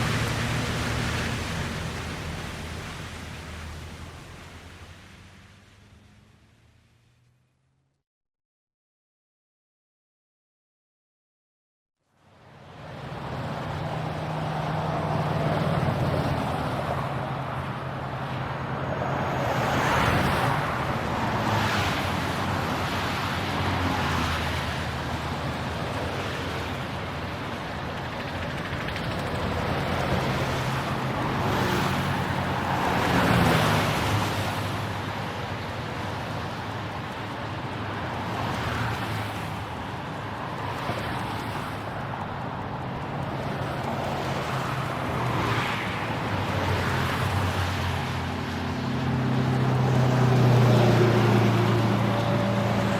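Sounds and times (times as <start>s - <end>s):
vehicles passing: 0.0s - 8.0s, 12.4s - 52.9s.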